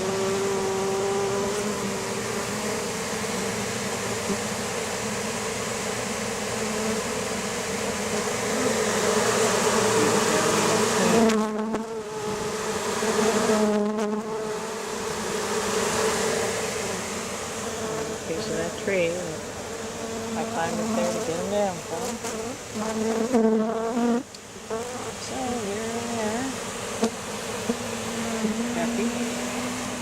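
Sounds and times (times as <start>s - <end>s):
honeybees buzzing: 0.0s - 30.0s
lower nearer bee buzz: 0.0s - 30.0s.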